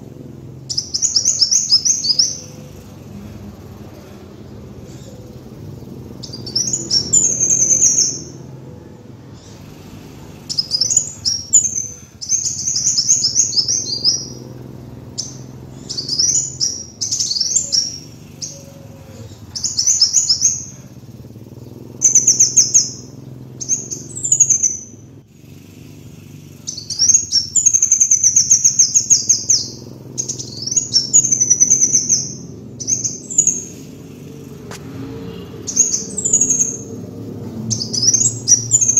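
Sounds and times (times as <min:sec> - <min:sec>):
bird twittering trills: 0:00.0 - 0:38.9
faint low hum: 0:00.0 - 0:38.9.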